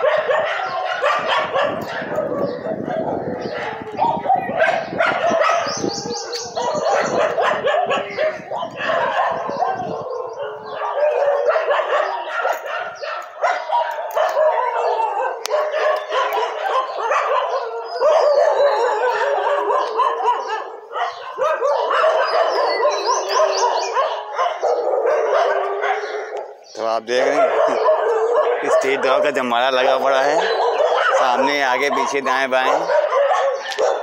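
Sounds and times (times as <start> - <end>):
dogs barking and howling: 0.0 - 34.0.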